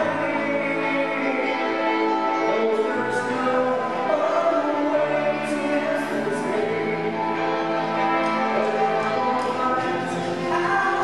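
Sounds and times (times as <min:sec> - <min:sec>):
live rock band playing: 0:00.0 - 0:11.0
sung vocals: 0:00.0 - 0:11.0.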